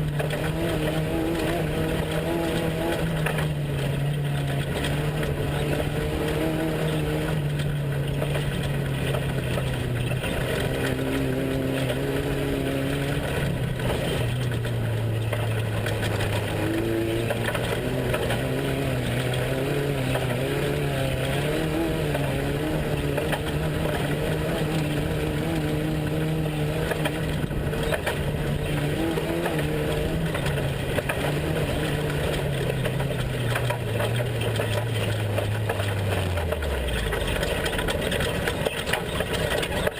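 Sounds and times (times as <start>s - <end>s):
constant rushing noise: 0.0s - 39.9s
truck engine running: 0.0s - 39.9s.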